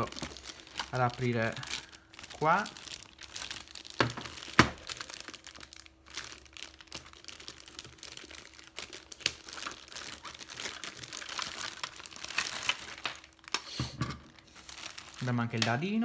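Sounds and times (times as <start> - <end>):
plastic bag crinkling: 0.0 - 13.7, 14.3 - 16.0.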